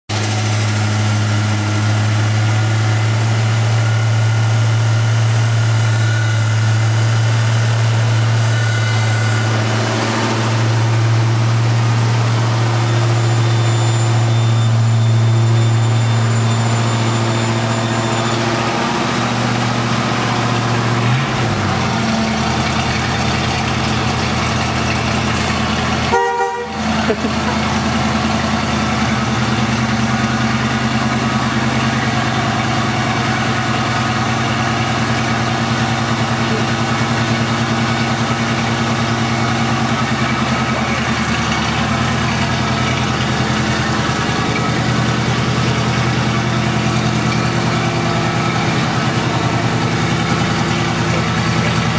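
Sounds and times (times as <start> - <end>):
car engine idling: 0.1 - 51.9.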